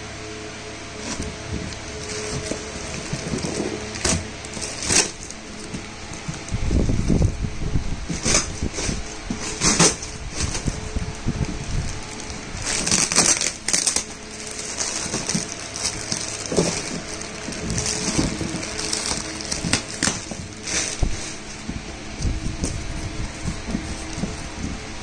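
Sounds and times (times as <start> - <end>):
plastic wrapping crinkling: 0.7 - 25.0
cardboard box scraping: 0.8 - 25.0.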